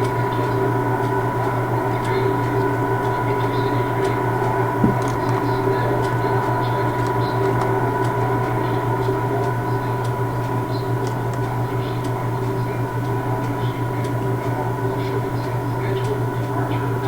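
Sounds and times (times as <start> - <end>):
faint ticks: 0.0 - 16.9
train machine hum: 0.0 - 17.0.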